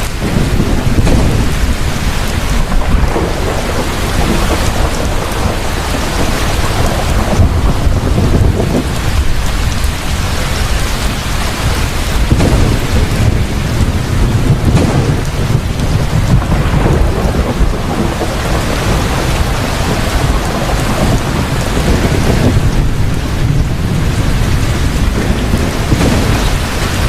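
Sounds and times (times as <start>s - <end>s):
heavy rain pouring: 0.0s - 27.0s
rolling thunder rumble: 0.0s - 27.0s.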